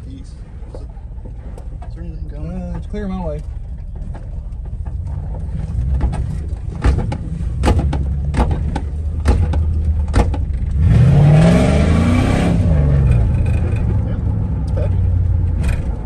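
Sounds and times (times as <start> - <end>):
pickup engine running: 0.0 - 16.0.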